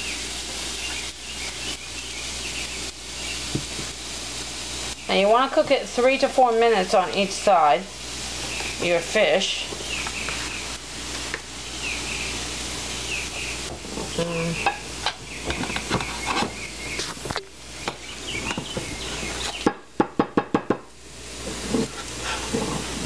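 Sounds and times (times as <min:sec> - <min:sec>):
fish sizzling in a pan: 0:00.0 - 0:23.0.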